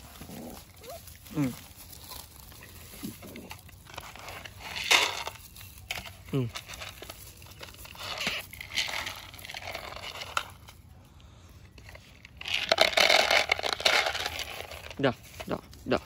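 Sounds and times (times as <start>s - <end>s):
dog crunching dry kibble: 0.0s - 10.9s, 11.6s - 16.0s.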